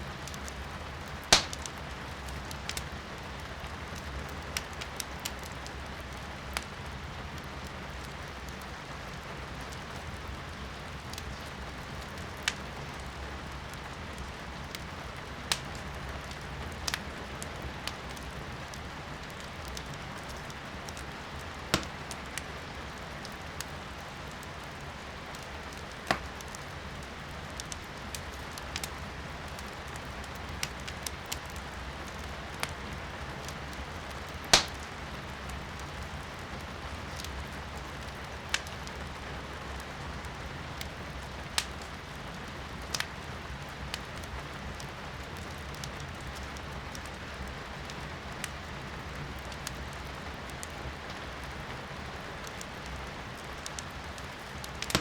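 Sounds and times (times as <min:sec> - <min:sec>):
rain hiss heard from indoors: 0:00.0 - 0:55.0
firewood crackling and popping: 0:00.1 - 0:55.0.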